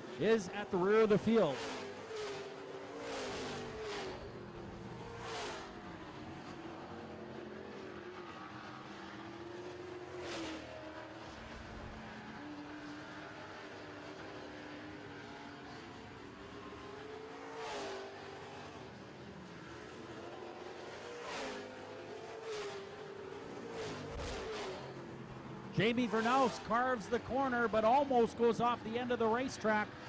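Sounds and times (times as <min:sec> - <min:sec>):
race truck engines passing: 0:00.0 - 0:30.0.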